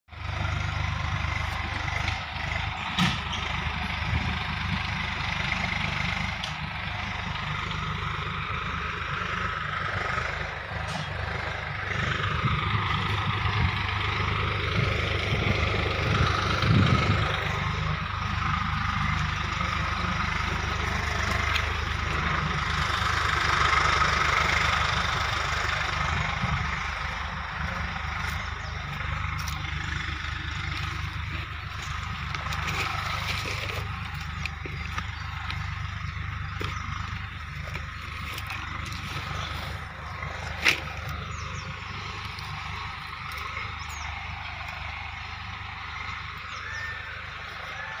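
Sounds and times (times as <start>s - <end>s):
tractor engine humming: 0.0s - 48.0s.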